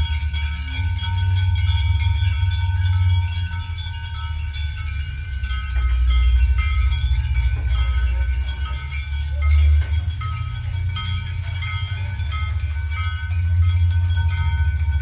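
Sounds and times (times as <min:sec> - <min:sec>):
deep low drone: 0:00.0 - 0:15.0
sustained high ringing tones: 0:00.0 - 0:15.0.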